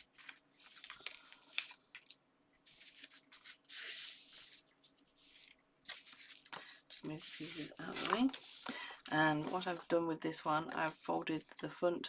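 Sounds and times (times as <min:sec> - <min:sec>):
paper rustling: 0:00.0 - 0:09.9.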